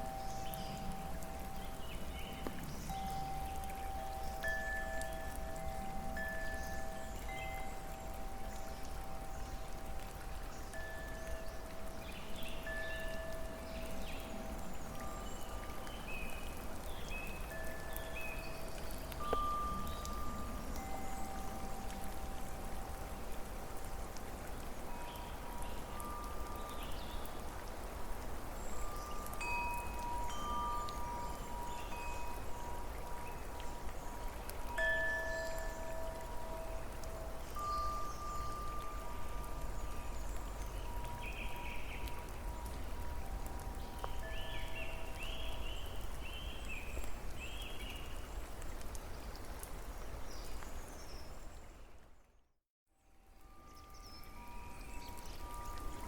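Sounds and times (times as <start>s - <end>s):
wind chimes ringing: 0.0s - 16.6s, 17.2s - 24.2s, 24.8s - 27.6s, 28.4s - 46.0s, 53.3s - 56.0s
hiss-like background: 0.0s - 52.3s, 53.0s - 56.0s.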